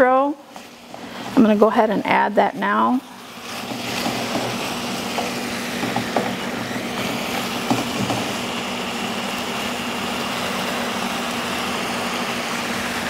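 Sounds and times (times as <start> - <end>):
filling sizzling in a skillet: 0.0 - 13.0.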